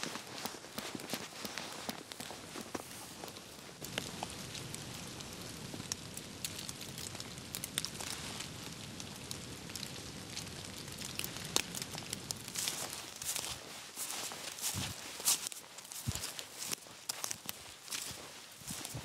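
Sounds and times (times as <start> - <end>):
drops pattering on dry leaves: 0.0 - 19.0.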